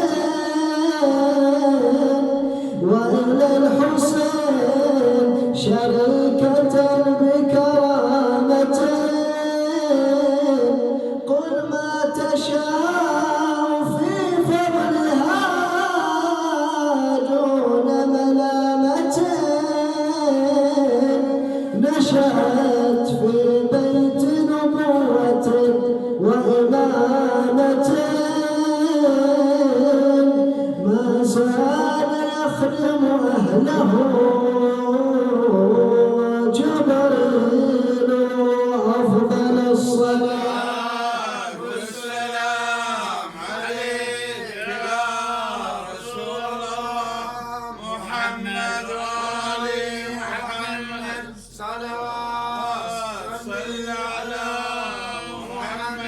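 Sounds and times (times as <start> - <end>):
man chanting: 0.0 - 56.0.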